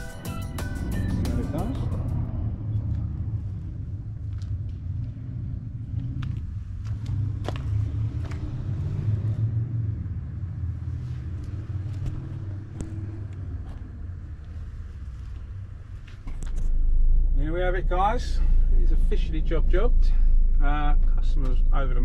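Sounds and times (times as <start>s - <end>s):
low steady rumble: 0.6s - 22.0s.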